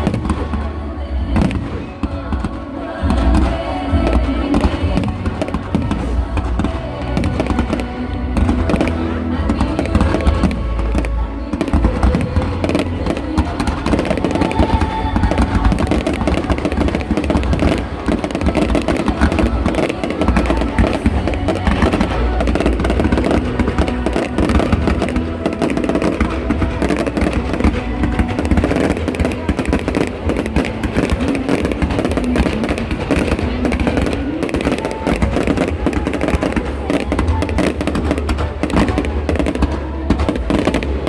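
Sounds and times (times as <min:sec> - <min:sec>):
fireworks bangs and crackles: 0:00.0 - 0:41.0
music playing: 0:00.0 - 0:41.0.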